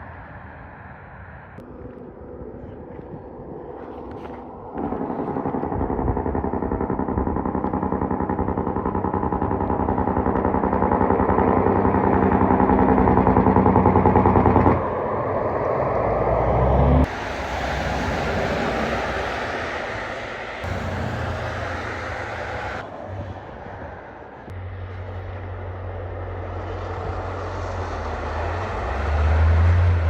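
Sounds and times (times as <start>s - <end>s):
traffic noise: 0.0s - 30.0s
diesel truck engine running: 1.6s - 30.0s.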